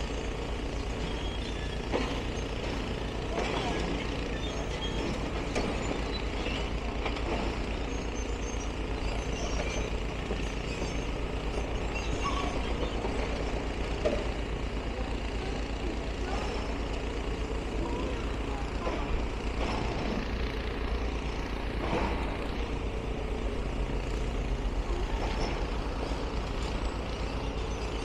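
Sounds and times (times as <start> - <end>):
diesel engine rumbling: 0.0 - 28.0.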